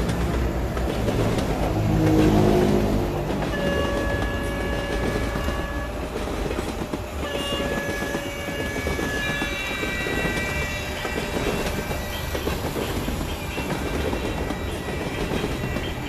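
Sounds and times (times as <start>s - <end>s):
train rattling rumble: 0.0s - 16.0s
train horn: 1.7s - 16.0s.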